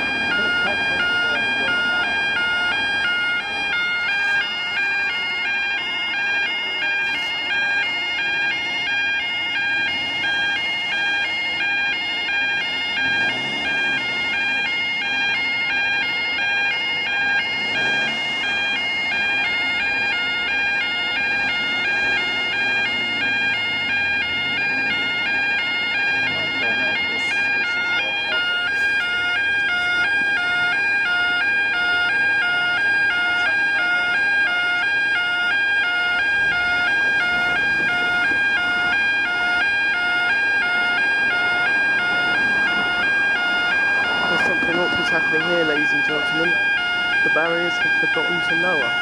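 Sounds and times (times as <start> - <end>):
level crossing alarm two-tone warble: 0.0 - 49.0.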